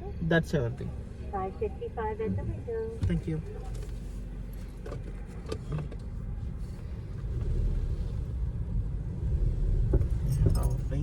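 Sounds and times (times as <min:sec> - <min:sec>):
car rumble from inside cabin: 0:00.0 - 0:11.0.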